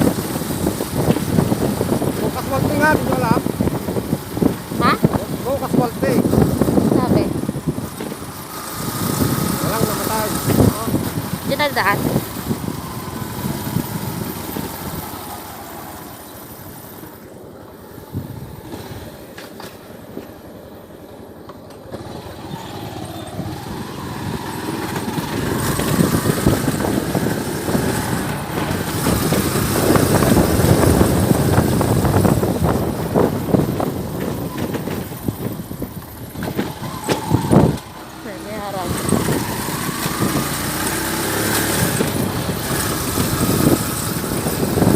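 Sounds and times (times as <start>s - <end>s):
road noise: 0.0s - 44.9s
vehicle engines: 0.0s - 44.9s.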